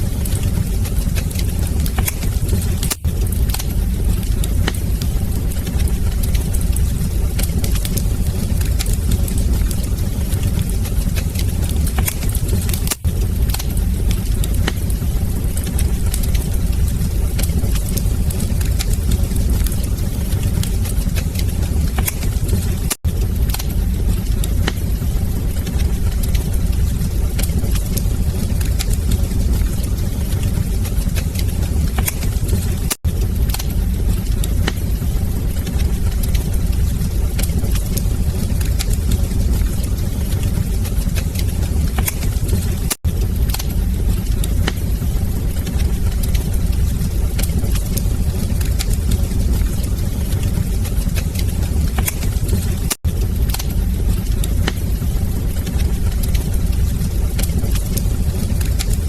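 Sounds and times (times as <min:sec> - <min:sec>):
fire burning: 0:00.0 - 0:59.0
fire crackling and popping: 0:00.0 - 0:59.0.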